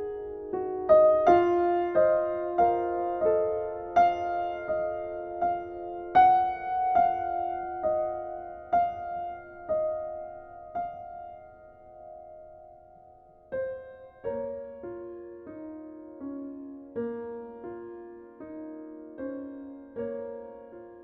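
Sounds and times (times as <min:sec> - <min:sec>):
slow gentle piano notes: 0:00.0 - 0:21.0.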